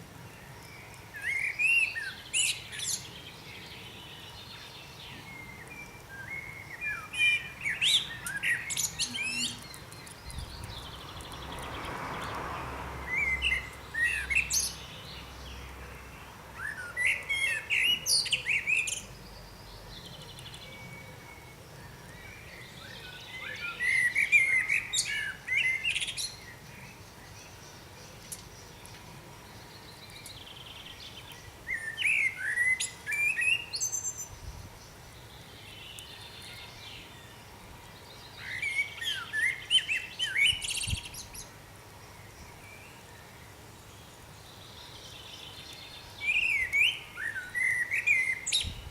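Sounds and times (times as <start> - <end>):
songbird twittering and chirping: 0.0 - 48.9.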